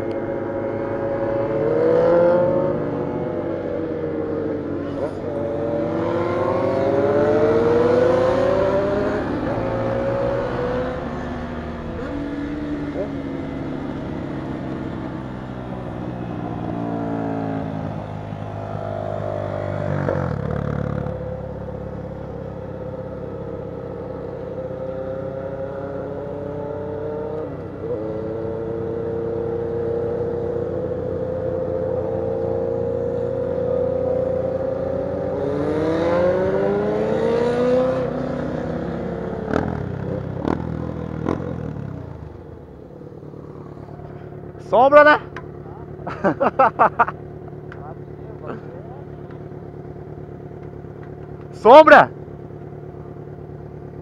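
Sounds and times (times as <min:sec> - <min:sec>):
motorcycle engines accelerating: 0:00.0 - 0:54.0.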